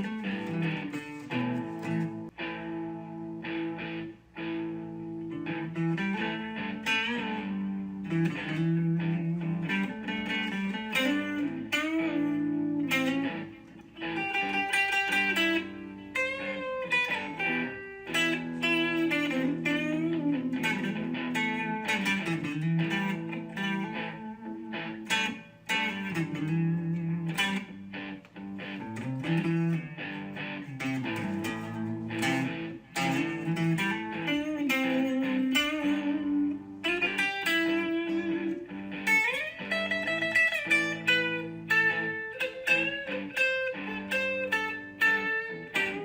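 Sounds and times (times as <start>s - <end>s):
plucked electric guitar music: 0.0s - 46.0s.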